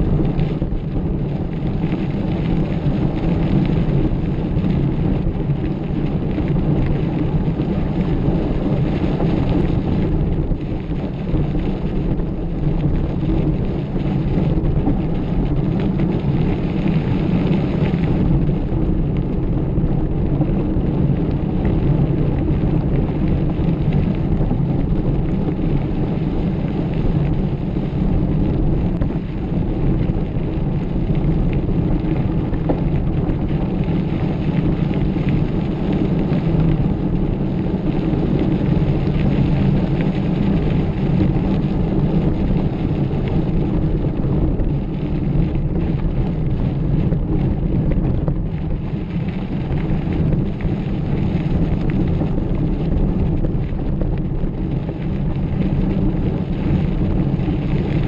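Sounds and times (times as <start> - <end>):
bike tyres on dirt trail: 0.0 - 52.3
wind on microphone: 0.0 - 58.0.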